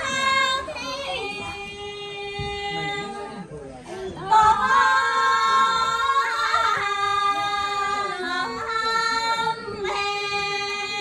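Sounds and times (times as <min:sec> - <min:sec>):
woman singing a folk song: 0:00.0 - 0:03.1, 0:04.2 - 0:11.0.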